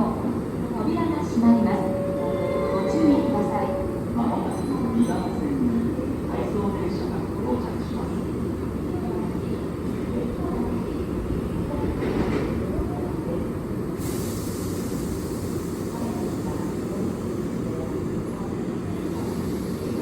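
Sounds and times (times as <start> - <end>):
train rumbling at station: 0.0 - 20.0.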